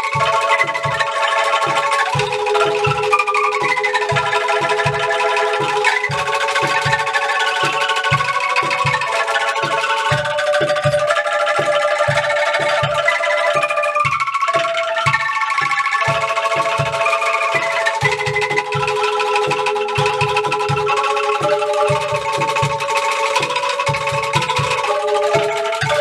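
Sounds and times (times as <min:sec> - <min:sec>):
bamboo angklungs rattling: 0:00.0 - 0:26.0.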